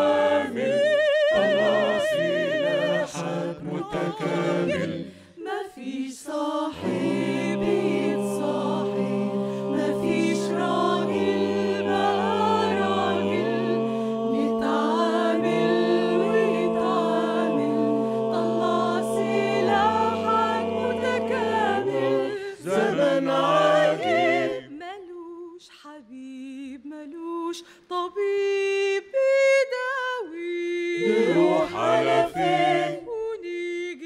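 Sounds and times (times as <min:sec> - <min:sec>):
a cappella choir singing chords: 0:00.0 - 0:34.0.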